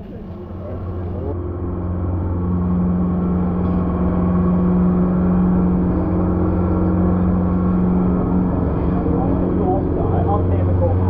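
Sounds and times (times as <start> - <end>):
motorboat engine droning: 0.0 - 11.0.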